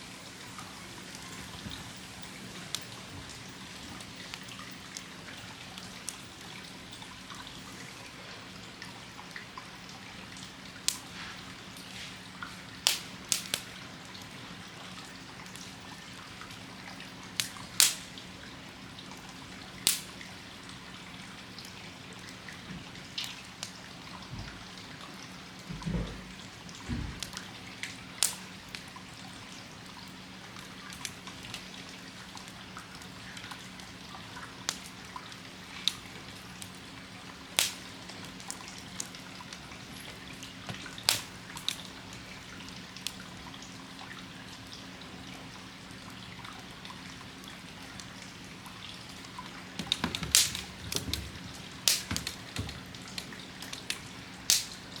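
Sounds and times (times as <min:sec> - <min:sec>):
campfire crackling and popping: 0:00.1 - 0:25.1, 0:26.3 - 0:55.0.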